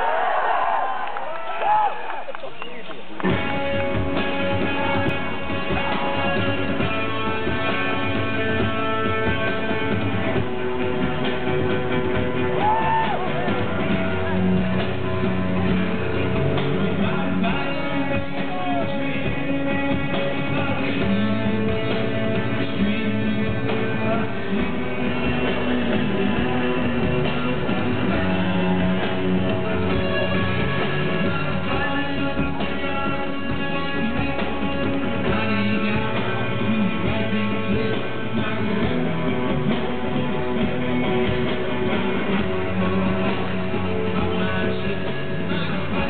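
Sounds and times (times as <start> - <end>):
drums: 2.4 - 46.0
electric guitars: 3.0 - 46.0
live rock band playing: 3.2 - 46.0.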